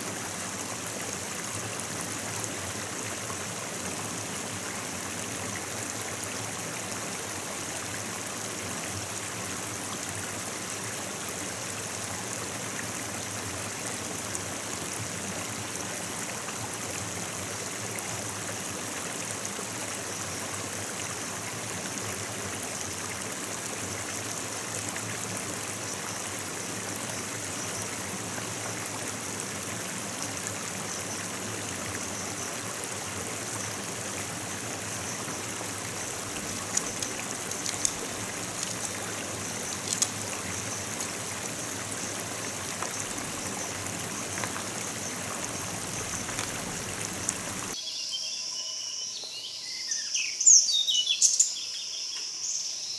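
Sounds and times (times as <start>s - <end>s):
stream water rushing: 0.0s - 47.8s.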